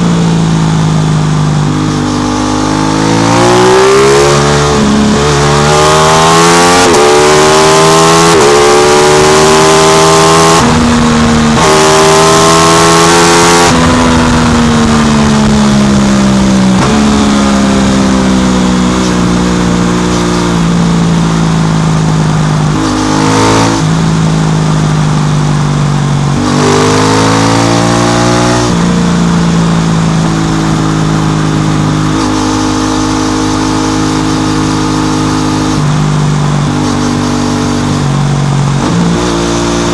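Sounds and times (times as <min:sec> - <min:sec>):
motorcycle engine accelerating through gears: 0:00.0 - 0:39.9
motorcycle engine revving: 0:00.0 - 0:39.9.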